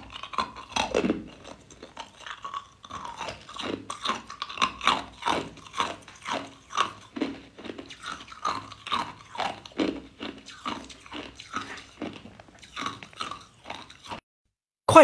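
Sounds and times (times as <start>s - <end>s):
ice cubes crunched by teeth: 0.0s - 14.2s.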